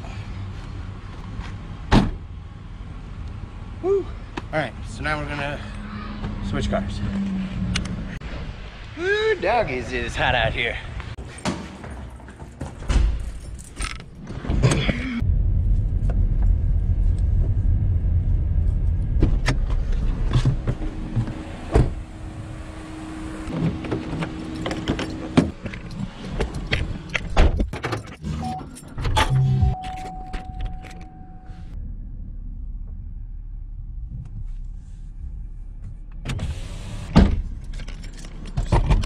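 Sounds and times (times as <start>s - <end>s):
car engine rumbling: 0.2s - 11.2s, 13.2s - 39.0s.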